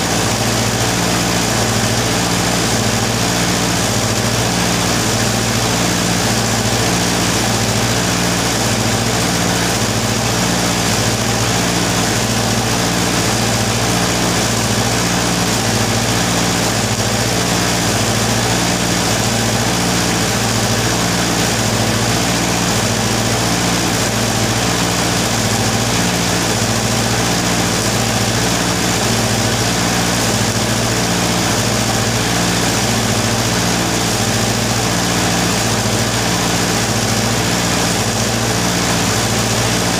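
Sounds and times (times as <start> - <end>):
pulsing machine hum: 0.0 - 39.9
welding arc crackling: 0.0 - 39.9.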